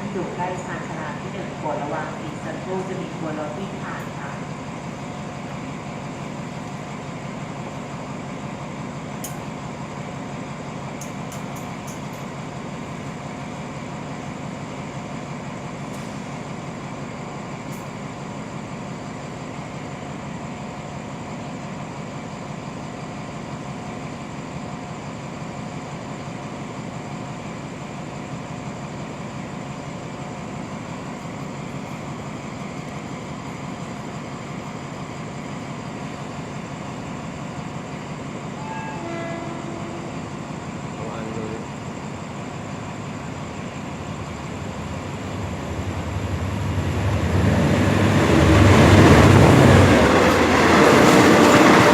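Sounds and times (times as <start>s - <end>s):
diesel locomotive idling: 0.0s - 51.9s.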